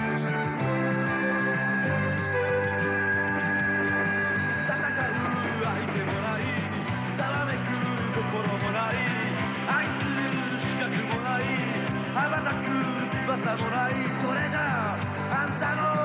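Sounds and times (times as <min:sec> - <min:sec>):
rock theme song: 0:00.0 - 0:16.0.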